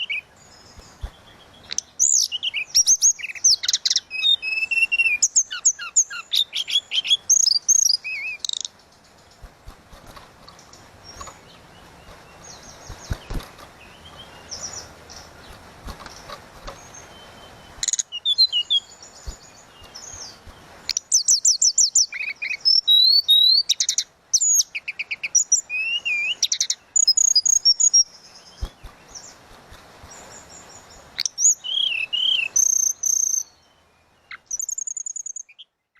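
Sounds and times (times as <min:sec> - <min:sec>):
songbird singing trills: 0:00.0 - 0:35.9.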